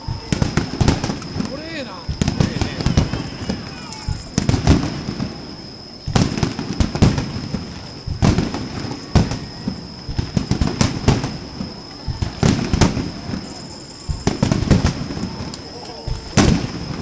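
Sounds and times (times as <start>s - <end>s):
fireworks bursting and crackling: 0.0s - 17.0s
loud firework booms: 0.0s - 17.0s.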